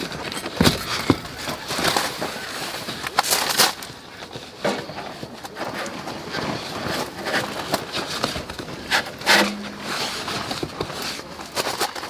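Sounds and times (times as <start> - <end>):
camping gear knocking and scraping: 0.0 - 12.0.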